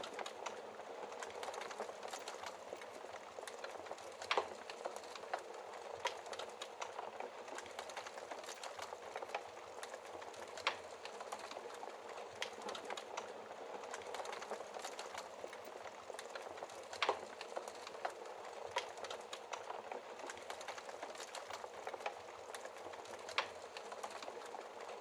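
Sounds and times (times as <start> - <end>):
wood fire crackling: 0.1 - 25.0.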